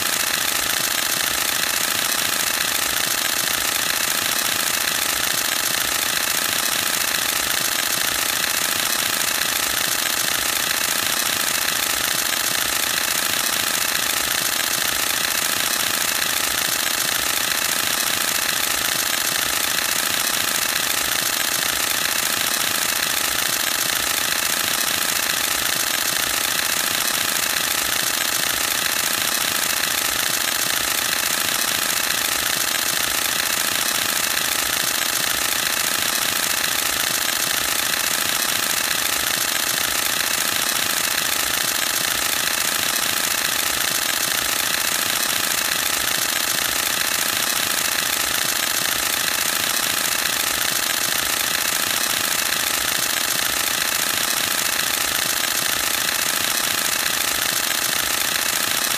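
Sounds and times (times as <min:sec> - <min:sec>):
camera shutter rapid clicks: 0:00.0 - 0:58.9.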